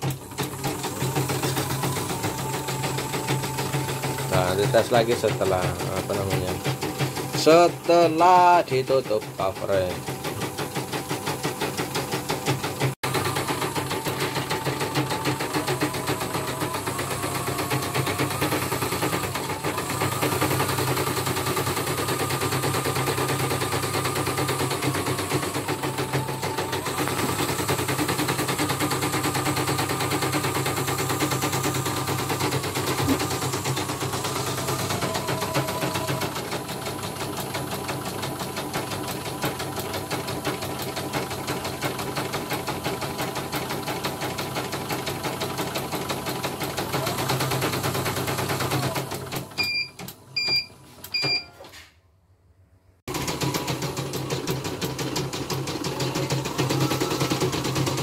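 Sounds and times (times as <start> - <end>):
embroidery machine stitching: 0.0 - 50.6, 53.1 - 58.0.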